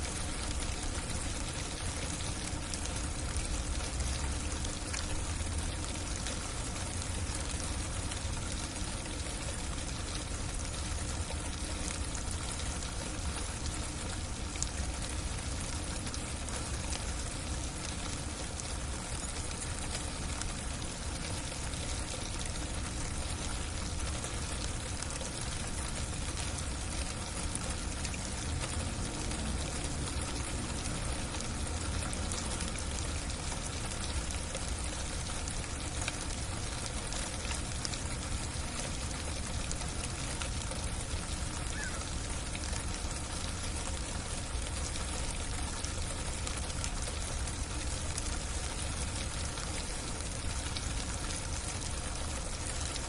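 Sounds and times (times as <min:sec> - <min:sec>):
freezing rain hissing: 0:00.0 - 0:53.0.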